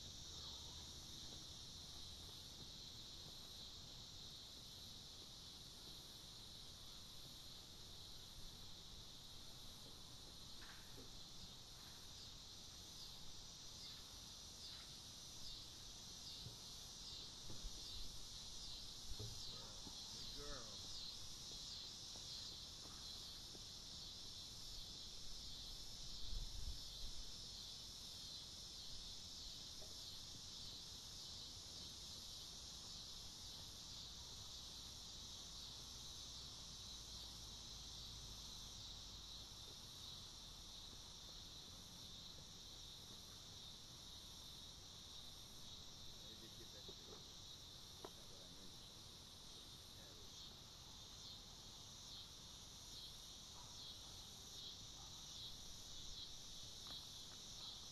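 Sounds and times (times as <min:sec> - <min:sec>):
high-pitched insect chorus: 0:00.0 - 0:57.9.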